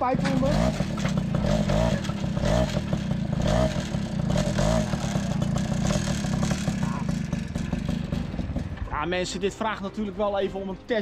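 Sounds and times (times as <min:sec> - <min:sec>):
moped engine revving and idling: 0:00.0 - 0:10.1.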